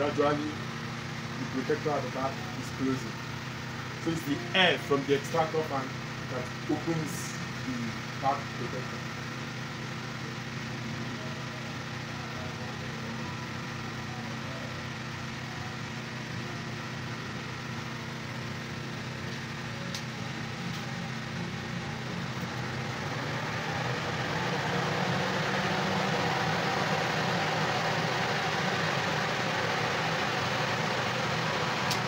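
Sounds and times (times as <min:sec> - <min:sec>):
extractor fan humming: 0:00.0 - 0:32.0.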